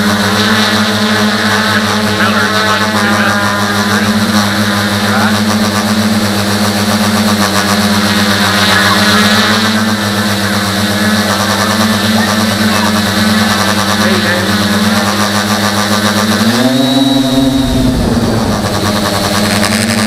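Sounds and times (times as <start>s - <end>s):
electric motors and propellers whining: 0.0s - 20.0s.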